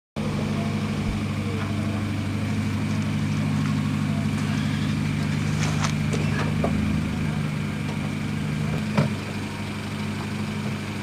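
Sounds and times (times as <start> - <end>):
car engine idling: 0.2 - 11.0.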